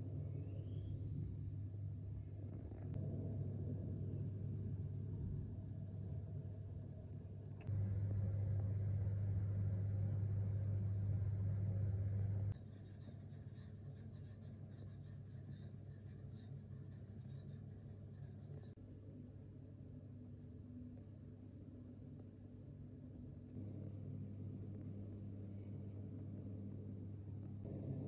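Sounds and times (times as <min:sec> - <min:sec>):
appliance electric hum: 0:00.0 - 0:28.0.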